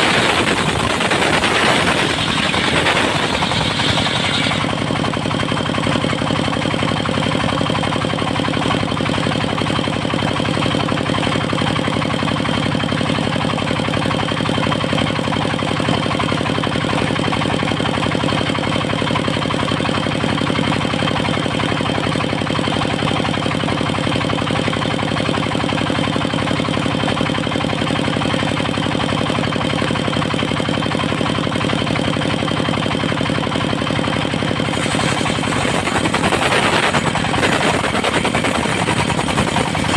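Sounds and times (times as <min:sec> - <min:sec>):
sawmill engine and saw running: 0:00.0 - 0:39.9.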